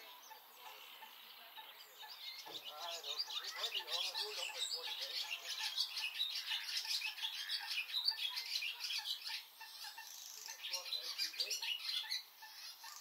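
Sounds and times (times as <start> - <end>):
high-pitched chattering bird calls: 0.0 - 13.0.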